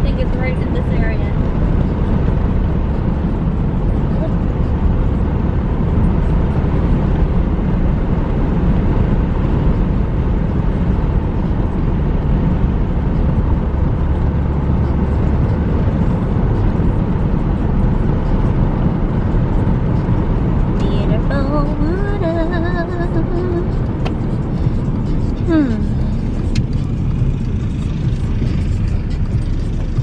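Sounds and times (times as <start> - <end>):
car interior road and engine noise: 0.0 - 30.0.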